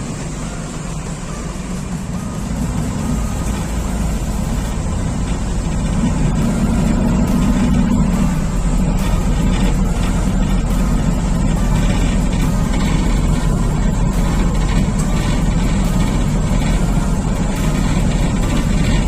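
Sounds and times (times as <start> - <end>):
boat engines droning: 0.0 - 19.0.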